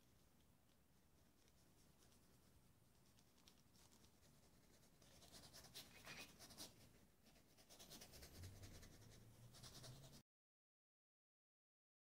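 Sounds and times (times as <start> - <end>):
paintbrush strokes on canvas: 0.0 - 10.2.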